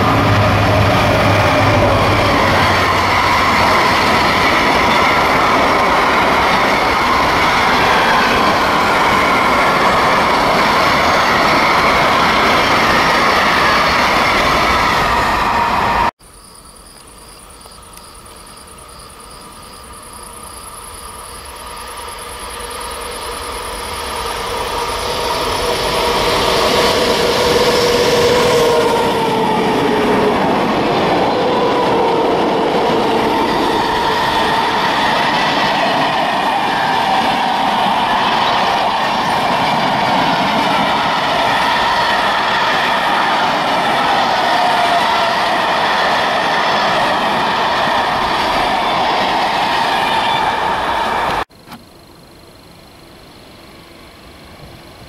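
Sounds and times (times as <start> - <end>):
diesel freight train approaching: 0.0 - 51.5.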